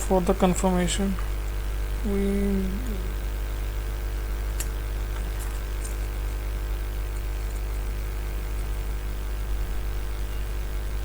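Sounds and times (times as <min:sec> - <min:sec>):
hot air station hum and hiss: 0:00.0 - 0:11.0.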